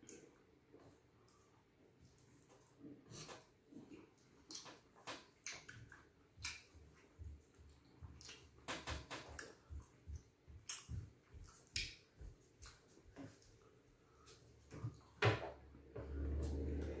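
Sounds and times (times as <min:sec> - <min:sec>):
faint chewing and mouth clicks: 0:00.0 - 0:15.2.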